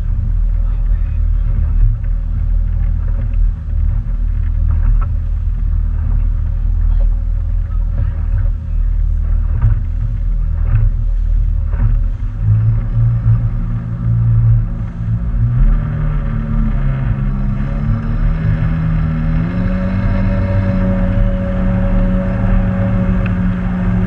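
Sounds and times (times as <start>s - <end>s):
motorboat engine rumbling: 0.0s - 24.0s.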